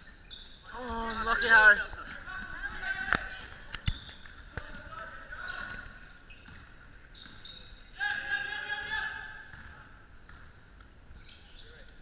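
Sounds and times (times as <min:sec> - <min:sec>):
ball and player sounds echoing: 0:00.0 - 0:12.0.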